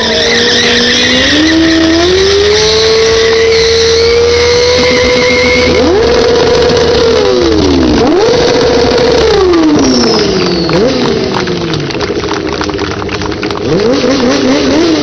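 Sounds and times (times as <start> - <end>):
motorcycle engine revving: 0.0 - 15.0
tyre spinning on pavement: 0.0 - 15.0.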